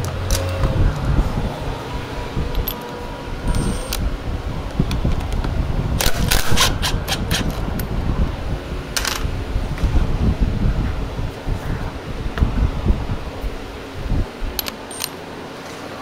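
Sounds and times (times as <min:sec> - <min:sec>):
low rumble: 0:00.0 - 0:14.7.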